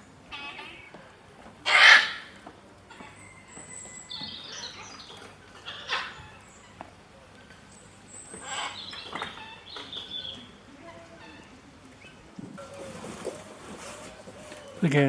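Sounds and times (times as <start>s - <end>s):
birds chirping: 1.6s - 15.0s.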